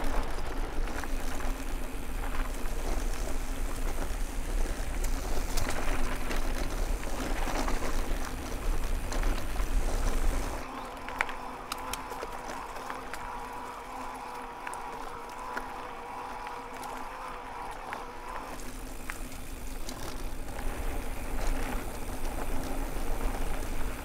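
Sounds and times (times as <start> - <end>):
bike tyres rolling: 0.0 - 24.0
clicks and rattles from trail: 0.0 - 24.0
faint steady hum: 0.0 - 24.0.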